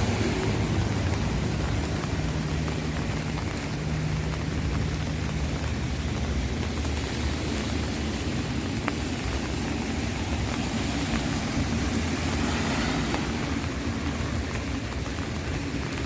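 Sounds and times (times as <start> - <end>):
rain pattering on an umbrella: 0.0 - 16.0
vehicle low rumble: 0.0 - 16.0.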